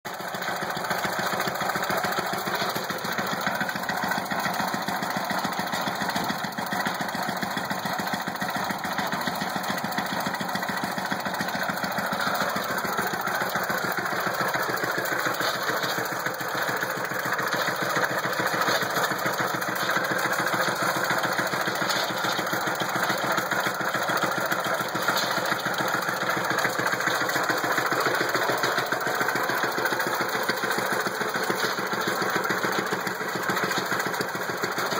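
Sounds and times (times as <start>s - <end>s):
single-cylinder engine running: 0.0s - 34.9s.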